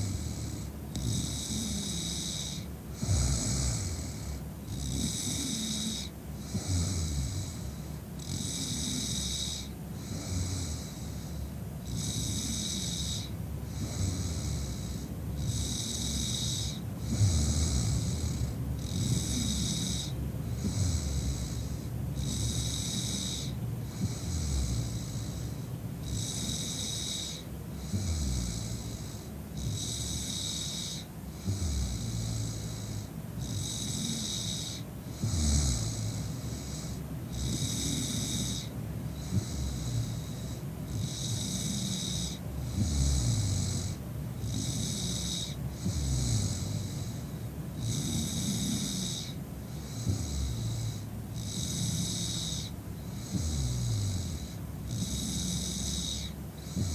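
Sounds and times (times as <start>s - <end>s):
woman snoring: 0.0s - 56.9s.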